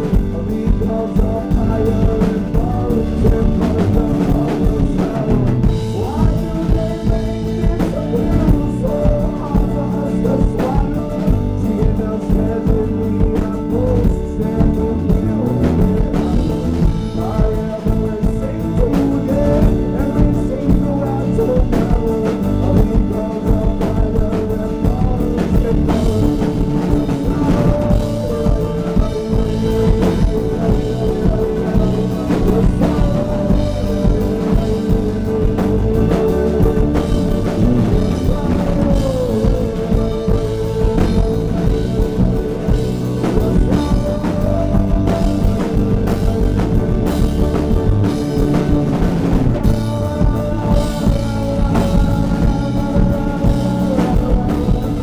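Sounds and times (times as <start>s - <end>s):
bass guitar: 0.0s - 55.0s
drum kit: 0.0s - 55.0s
man singing: 0.0s - 55.0s.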